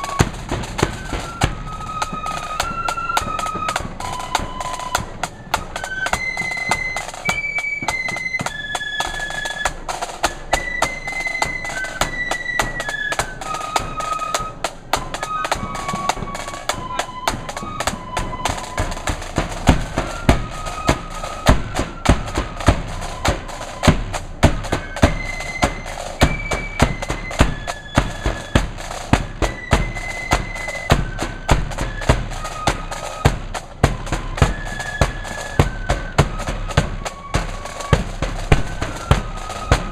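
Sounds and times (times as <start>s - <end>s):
flutes playing melody: 0.0s - 39.9s
rattling snare drums: 0.0s - 39.9s.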